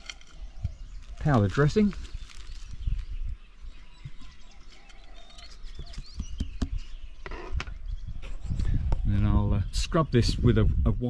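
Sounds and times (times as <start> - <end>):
small birds chirping: 0.0 - 11.0
wind rumble on microphone: 0.0 - 11.0.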